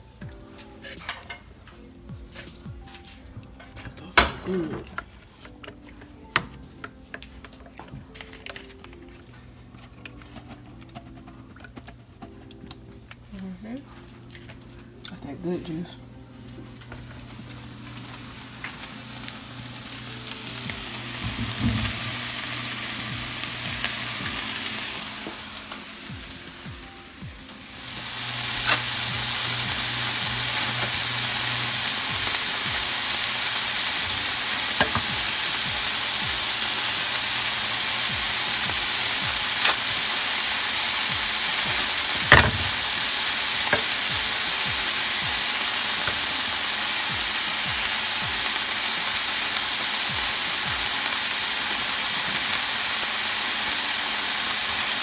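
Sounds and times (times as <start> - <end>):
meat and peppers sizzling in skillet: 0.0 - 3.4, 14.2 - 55.0.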